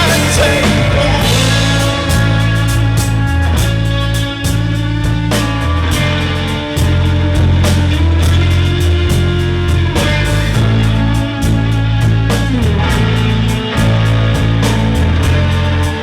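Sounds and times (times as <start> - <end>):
distorted live band with guitar: 0.0 - 16.0.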